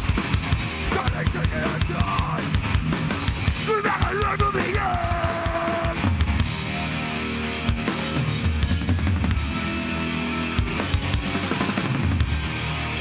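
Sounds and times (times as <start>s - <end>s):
distorted guitars and bass: 0.0s - 13.0s
pounding drum kit: 0.0s - 13.0s.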